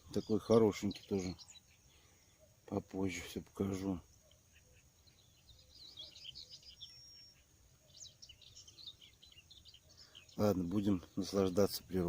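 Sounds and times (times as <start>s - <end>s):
faint outdoor background noise: 0.0s - 12.0s
songbirds chirping: 0.0s - 12.0s.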